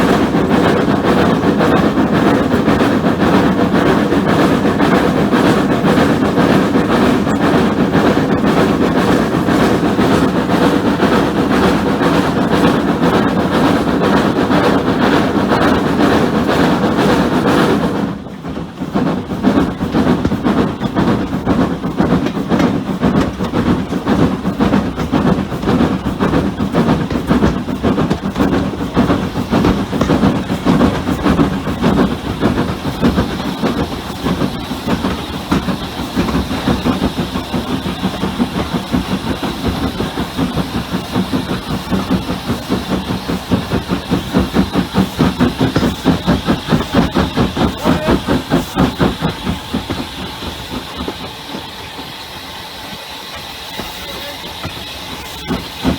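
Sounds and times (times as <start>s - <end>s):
rail clatter: 0.0s - 55.9s
steam hissing: 0.0s - 55.9s
steam locomotive exhaust beats: 0.0s - 55.9s.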